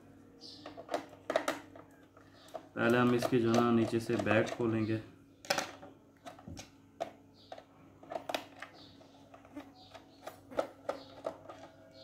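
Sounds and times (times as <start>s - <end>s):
plastic parts handled: 0.5s - 12.0s.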